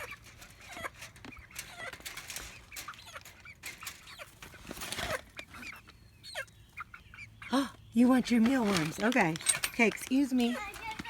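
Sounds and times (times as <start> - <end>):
chickens chirping: 0.0 - 11.0
chickens clucking: 0.0 - 11.0.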